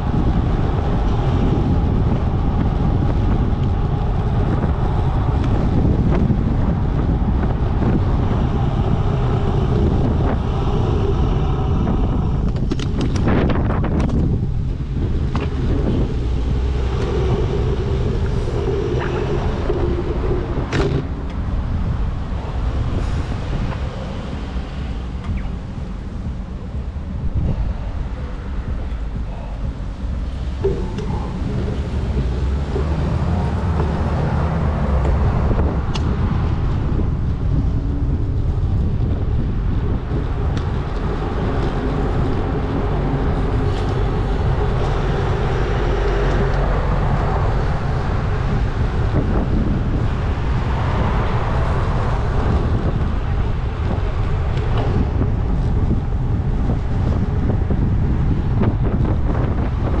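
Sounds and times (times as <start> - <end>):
road traffic noise: 0.0 - 60.0
wind rumble on microphone: 0.0 - 60.0.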